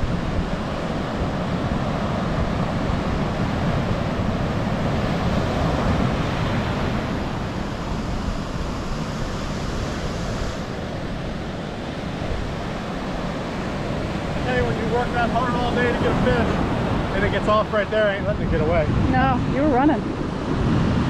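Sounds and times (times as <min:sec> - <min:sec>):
ocean surf breaking: 0:00.0 - 0:21.0
wind buffeting microphone: 0:00.0 - 0:21.0.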